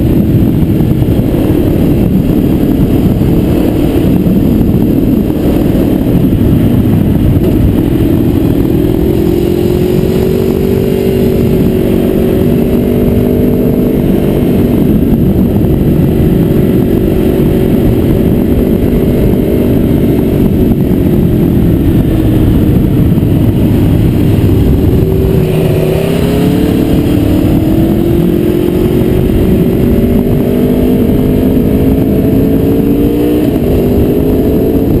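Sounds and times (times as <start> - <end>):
motorcycle engine revving: 0.0 - 35.0
wind on microphone: 0.0 - 35.0.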